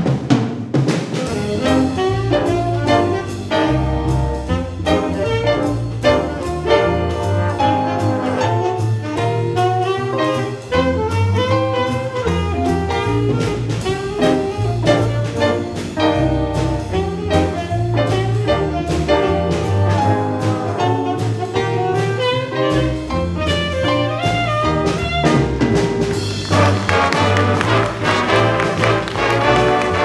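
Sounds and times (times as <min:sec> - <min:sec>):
jazz big band playing swing: 0:00.0 - 0:30.0.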